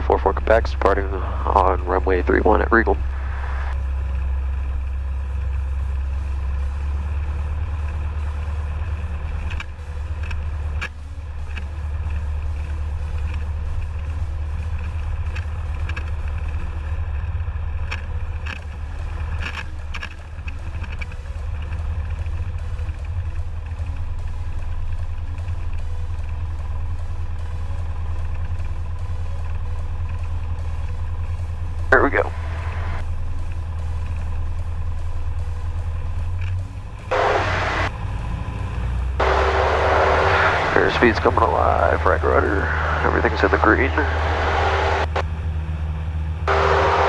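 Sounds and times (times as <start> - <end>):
aircraft piston engine droning: 0.0 - 47.0.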